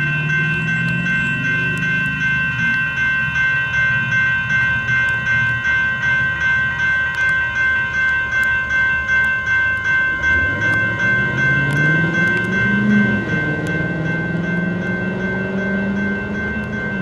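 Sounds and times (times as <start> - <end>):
crossing bell ringing: 0.0 - 17.0
train low hum: 0.0 - 17.0.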